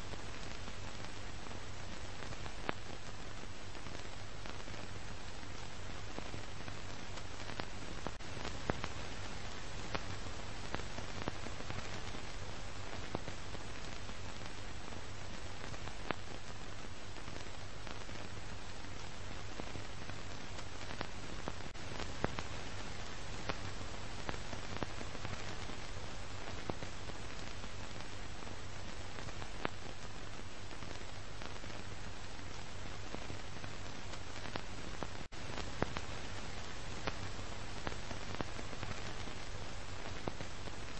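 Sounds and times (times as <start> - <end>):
film soundtrack hiss: 0.0 - 40.9.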